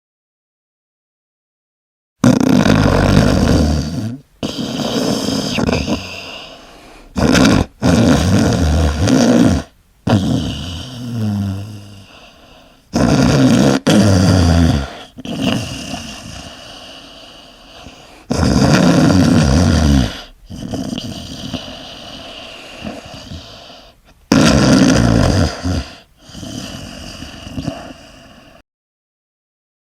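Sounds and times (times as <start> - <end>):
person snoring: 2.2 - 28.6
quiet breaths: 2.6 - 24.3, 24.9 - 28.6.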